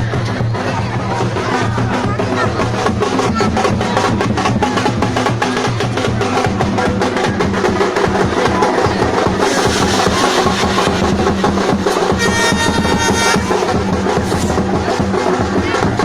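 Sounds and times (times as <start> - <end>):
fast loud drumming: 0.0 - 16.0.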